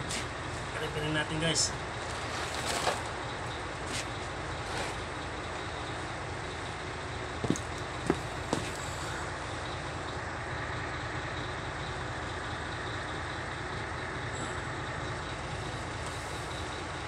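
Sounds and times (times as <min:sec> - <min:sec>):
vehicle engine rumble and hiss: 0:00.0 - 0:17.0.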